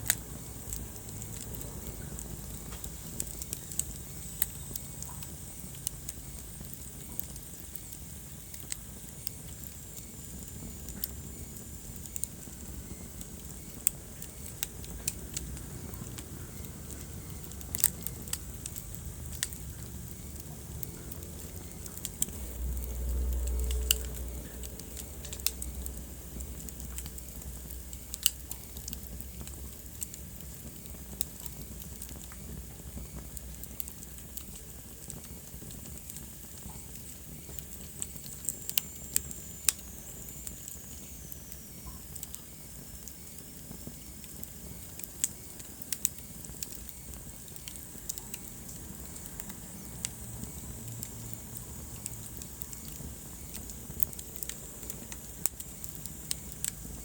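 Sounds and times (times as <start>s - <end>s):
fire pops and snaps: 0.0s - 57.0s
flames rumbling and hissing: 0.0s - 57.0s.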